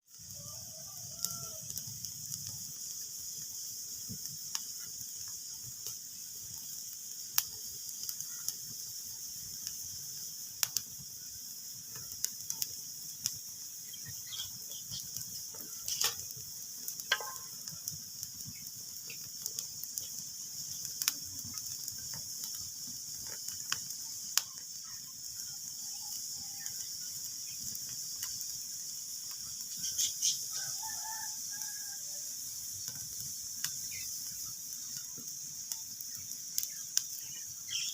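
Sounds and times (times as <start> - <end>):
wood fire crackling: 0.1 - 37.9.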